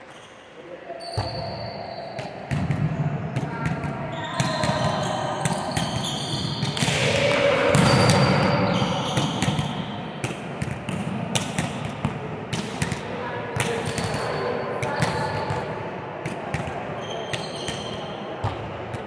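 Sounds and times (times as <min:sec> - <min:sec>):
balls bouncing on hall floor: 0:02.2 - 0:19.0
volleyballs being hit: 0:02.2 - 0:19.0.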